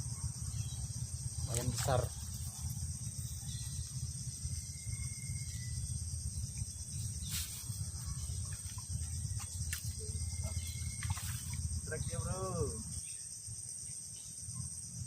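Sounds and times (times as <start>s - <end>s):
low rumble: 0.0s - 13.1s
insects chorus: 0.0s - 15.0s.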